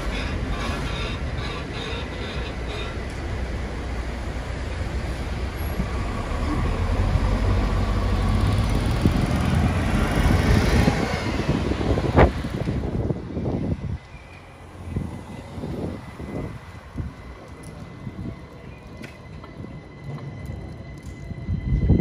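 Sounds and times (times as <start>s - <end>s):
bus passing by: 0.0s - 22.0s.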